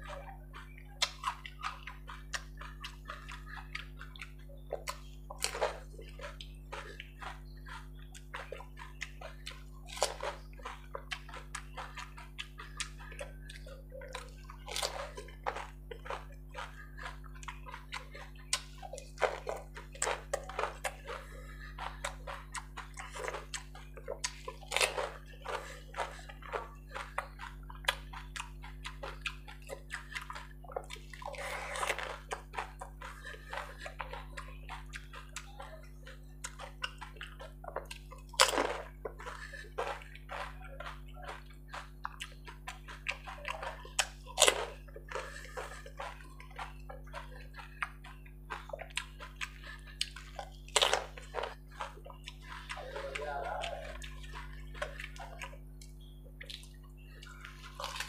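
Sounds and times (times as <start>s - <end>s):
chewing: 0.0s - 58.0s
crisp puris crunching: 0.0s - 58.0s
steady low hum: 0.0s - 58.0s.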